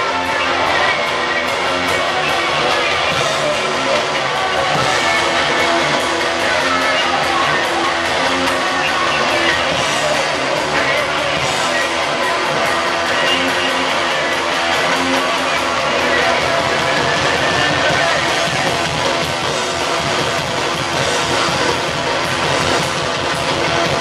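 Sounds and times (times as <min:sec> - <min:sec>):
electric guitar: 0:00.0 - 0:24.0
live band playing loud music: 0:00.0 - 0:24.0.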